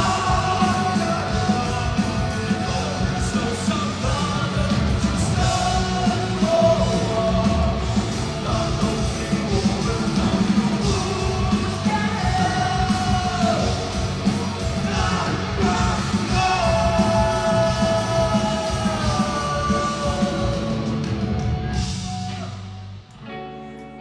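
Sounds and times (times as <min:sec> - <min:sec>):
person singing and shouting: 0:00.0 - 0:20.9
live rock band playing: 0:00.0 - 0:24.0.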